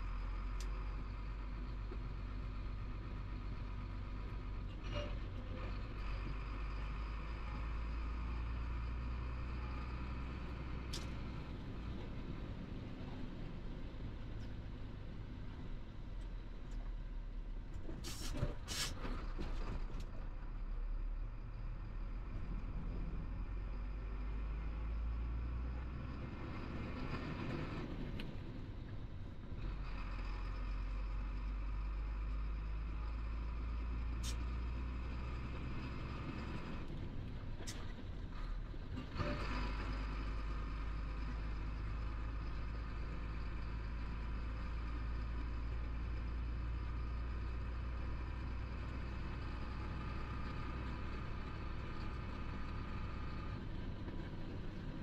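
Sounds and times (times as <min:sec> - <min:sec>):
road noise: 0:00.0 - 0:55.0
truck diesel engine: 0:00.0 - 0:55.0.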